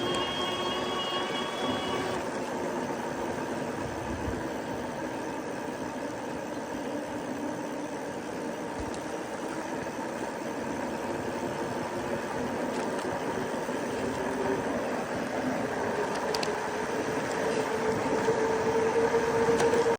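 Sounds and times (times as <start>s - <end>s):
bike rolling and wind noise: 0.0s - 19.9s
faint electric motor hum: 0.0s - 19.9s.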